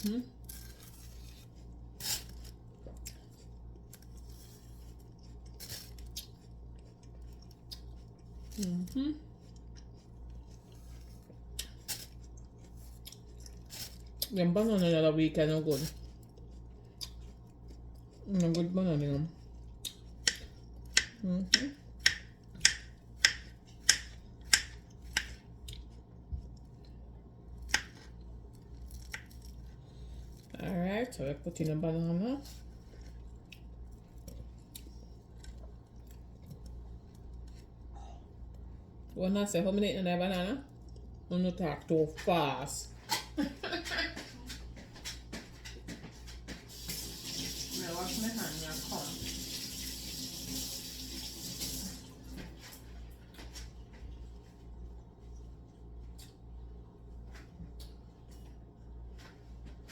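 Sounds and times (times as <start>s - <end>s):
steady low hum: 0.0s - 47.0s, 51.7s - 59.9s.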